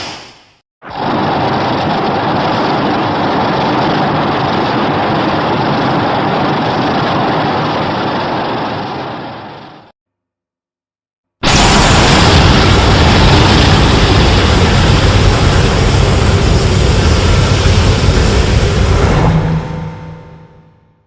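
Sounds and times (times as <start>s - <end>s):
loud steady rushing noise: 0.9s - 9.9s, 11.4s - 20.4s.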